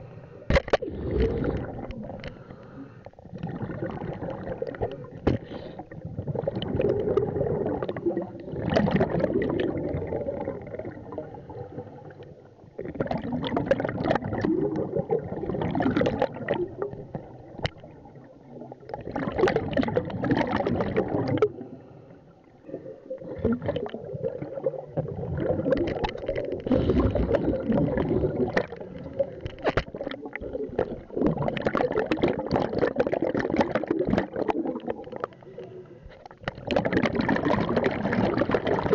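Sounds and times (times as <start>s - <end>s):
underwater exhaust bubbles: 0.0s - 38.9s.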